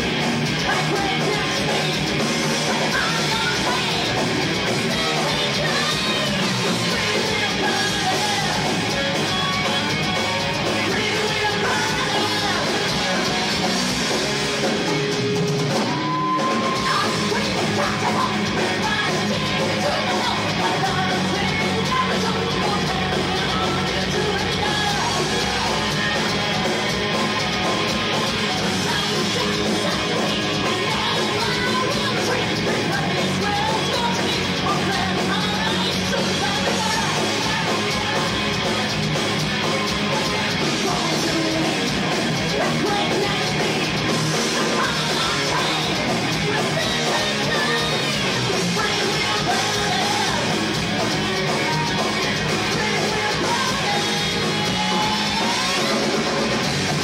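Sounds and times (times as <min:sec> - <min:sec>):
person singing: 0:00.0 - 0:38.9, 0:39.6 - 0:57.0
distorted electric guitars: 0:00.0 - 0:57.0
drums: 0:00.0 - 0:57.0.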